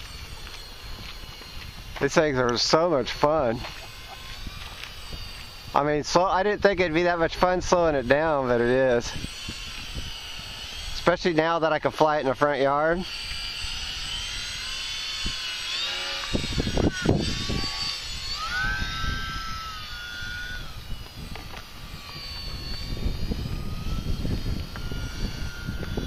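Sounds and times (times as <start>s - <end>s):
model plane motors whining: 0.0s - 26.0s.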